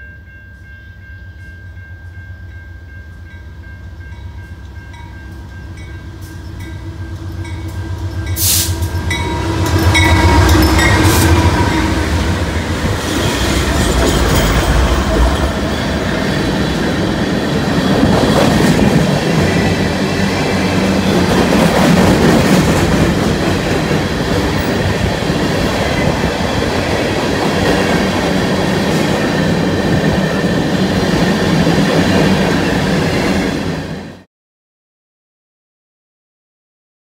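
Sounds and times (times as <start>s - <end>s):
diesel freight train passing: 0.0s - 34.3s
steel wheels on rails: 3.2s - 34.2s.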